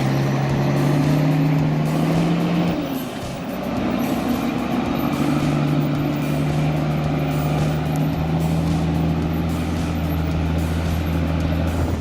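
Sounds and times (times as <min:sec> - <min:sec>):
large engine running: 0:00.0 - 0:12.0.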